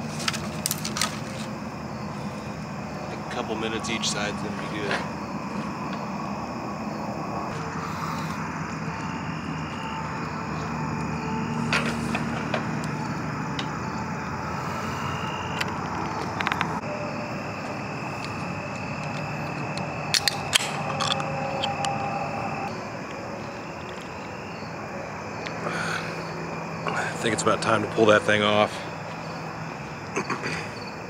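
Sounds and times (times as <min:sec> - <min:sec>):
insect chirring: 0:00.0 - 0:31.0.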